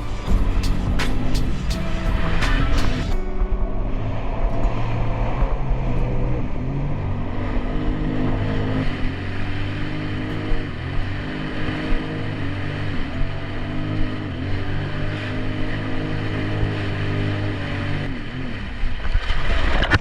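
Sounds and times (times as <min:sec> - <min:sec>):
personal watercraft engine running: 0:00.0 - 0:20.0.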